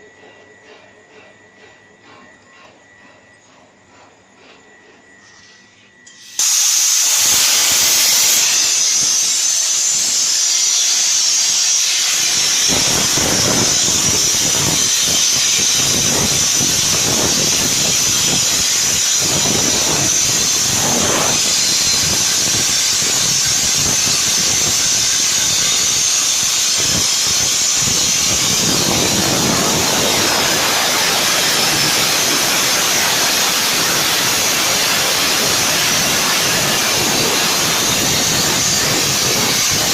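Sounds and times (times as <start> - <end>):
plasma cutter hissing: 6.1 - 39.9.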